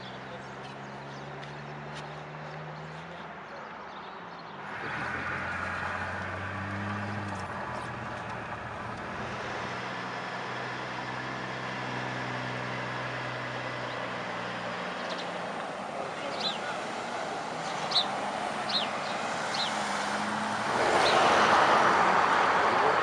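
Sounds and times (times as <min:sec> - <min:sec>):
road noise: 0:00.0 - 0:23.0
car engine hum: 0:04.5 - 0:23.0.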